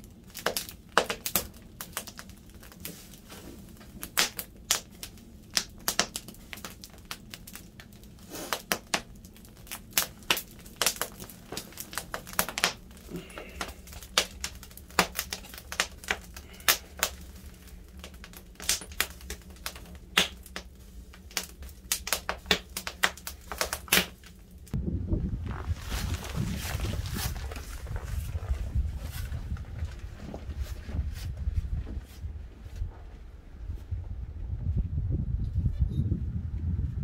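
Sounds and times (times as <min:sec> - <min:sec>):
firewood crackling: 0:00.0 - 0:33.4.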